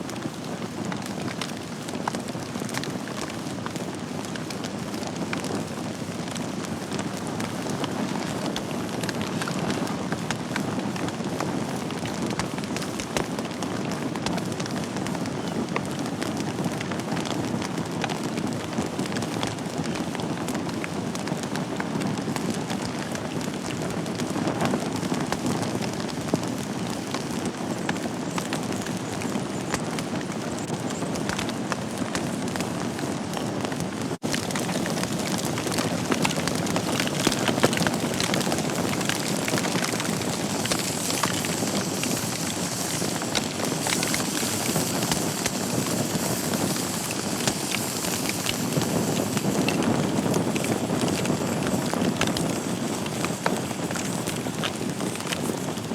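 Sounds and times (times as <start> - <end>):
fire crackling and popping: 0.0 - 55.9
wood fire burning: 0.0 - 55.9.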